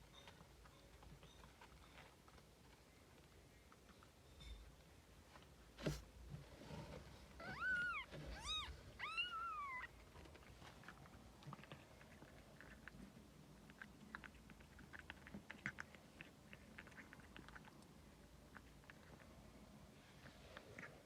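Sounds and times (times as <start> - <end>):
faint ticks and rustles: 0.0 - 21.0.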